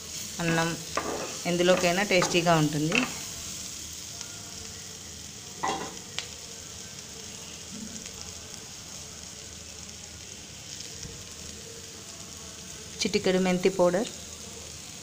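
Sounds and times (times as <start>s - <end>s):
cabbage sizzling in oil: 0.0s - 15.0s.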